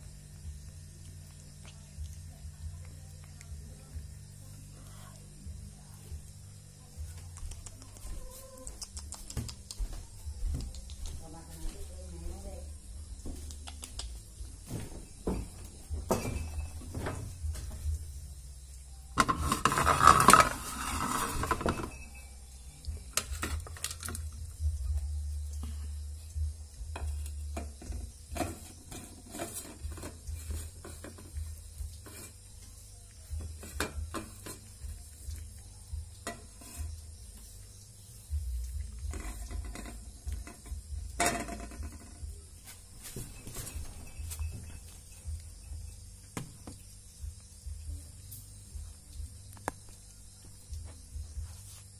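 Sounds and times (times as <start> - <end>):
cats eating from plate: 0.0 - 14.6, 16.3 - 46.8.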